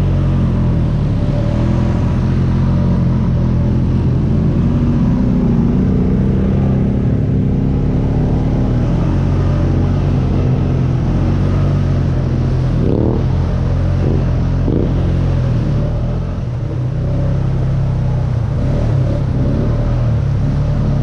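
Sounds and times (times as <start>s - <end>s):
quad bike engine revving: 0.0s - 21.0s.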